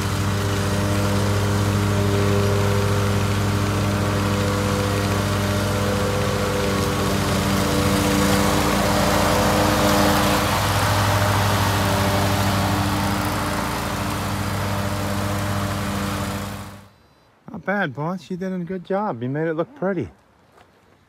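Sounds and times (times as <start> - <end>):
lawn mower engine hum: 0.0 - 16.9
mower blades: 0.0 - 16.9.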